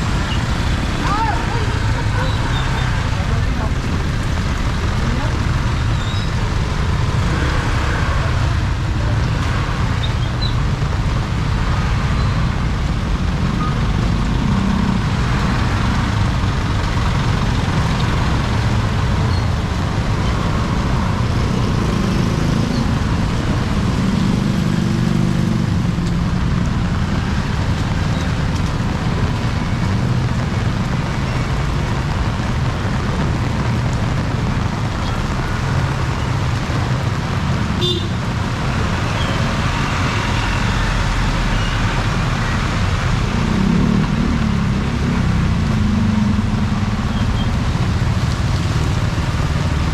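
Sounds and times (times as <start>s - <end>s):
heavy rain: 0.0s - 49.9s
street traffic: 0.0s - 49.9s
vehicles passing: 0.0s - 49.9s.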